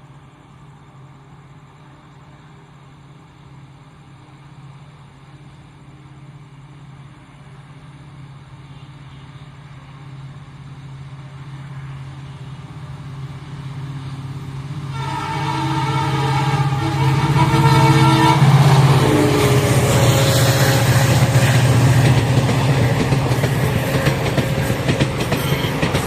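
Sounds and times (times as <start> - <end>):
train locomotive engine hum: 0.0 - 26.0.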